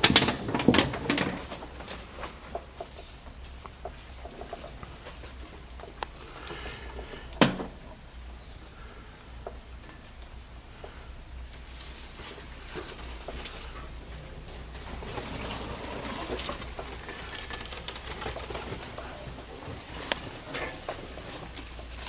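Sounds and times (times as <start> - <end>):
insect buzzing: 1.4 - 22.0.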